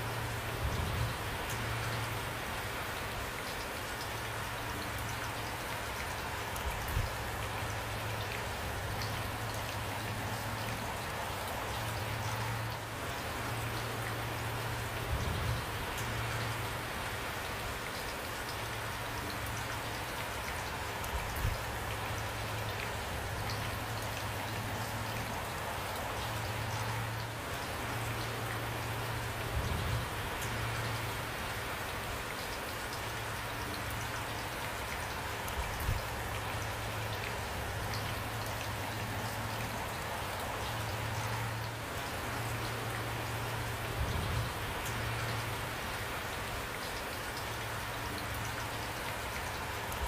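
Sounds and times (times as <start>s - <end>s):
steady rain patter: 0.0s - 50.0s.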